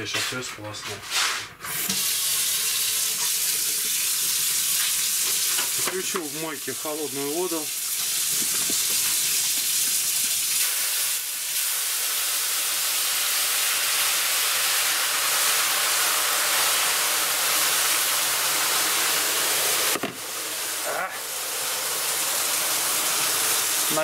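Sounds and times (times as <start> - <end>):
water boiling and sizzling with steam hiss: 1.1 - 24.0
water pouring from kettle: 1.7 - 24.0.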